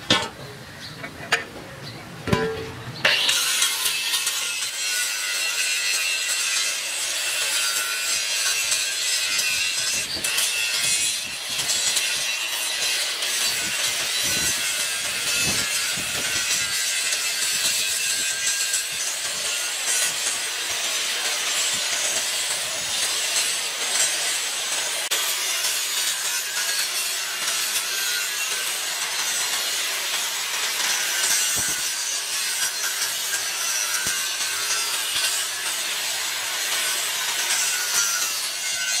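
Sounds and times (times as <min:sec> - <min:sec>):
angle grinder grinding metal: 0:02.3 - 0:39.0.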